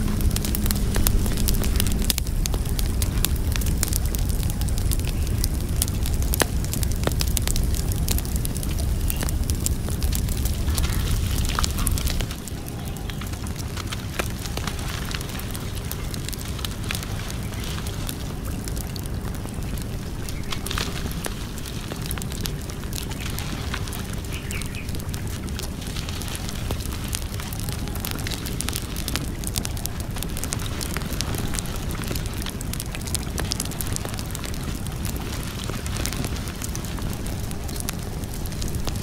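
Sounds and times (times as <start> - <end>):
fire popping and crackling: 0.0 - 39.0
fire rumbling: 0.0 - 39.0.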